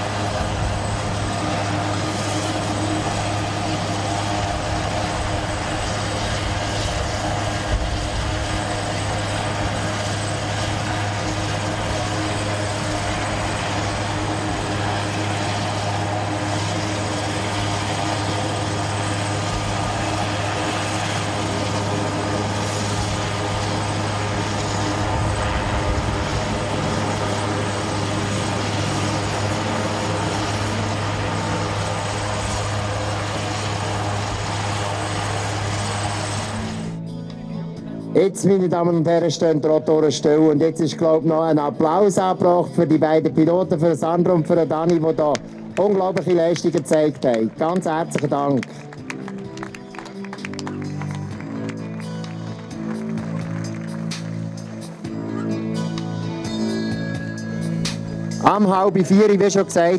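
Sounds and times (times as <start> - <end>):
helicopter running on ground: 0.0 - 59.9.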